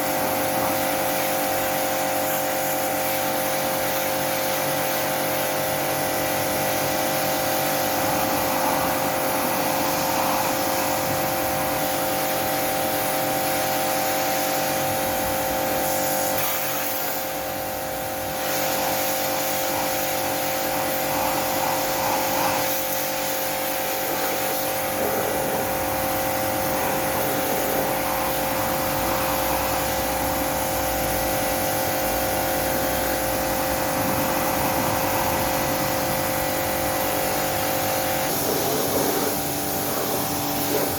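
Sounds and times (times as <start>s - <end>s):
pressure washer running: 0.0s - 40.9s.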